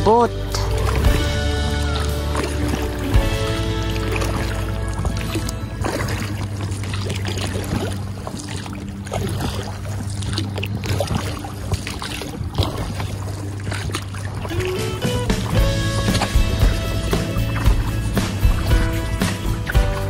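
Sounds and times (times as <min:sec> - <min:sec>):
oars dipping and splashing: 0:00.0 - 0:20.0
water swishing along hull: 0:00.0 - 0:20.0.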